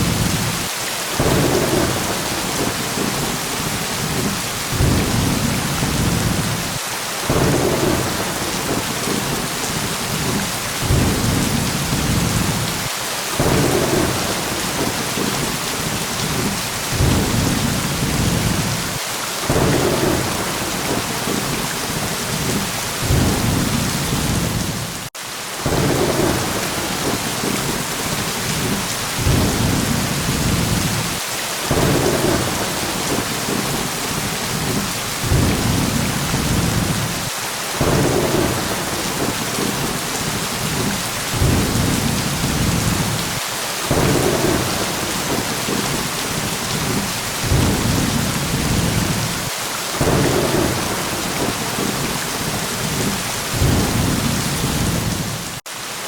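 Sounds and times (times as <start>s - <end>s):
thunder rumbling: 0.0s - 55.6s
heavy rain: 0.0s - 56.0s.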